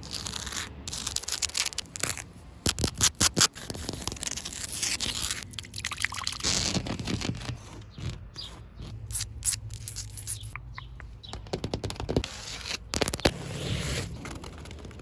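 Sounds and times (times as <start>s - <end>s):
scratching on objects: 0.0s - 15.0s.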